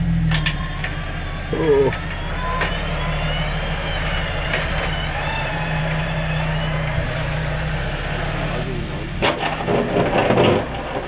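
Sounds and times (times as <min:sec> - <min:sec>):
truck engine running: 0:00.0 - 0:11.0
winch whining: 0:00.3 - 0:11.0.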